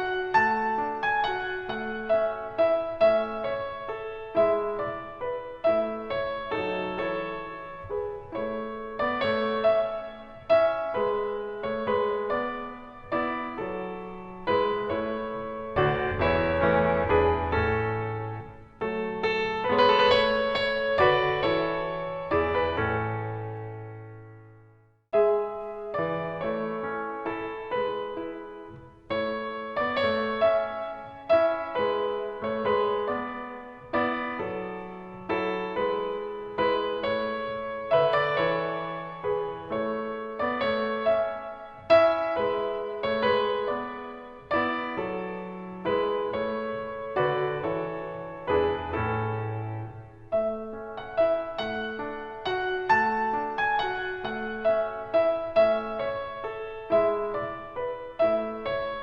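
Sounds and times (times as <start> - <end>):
slow piano music: 0.0 - 59.0.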